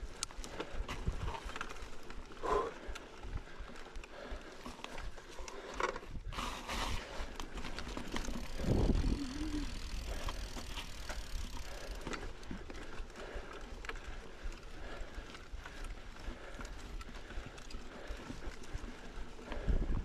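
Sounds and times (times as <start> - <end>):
bike chain and frame rattling: 0.0 - 20.0
bike tyres on dirt: 0.0 - 20.0
wind: 0.0 - 20.0.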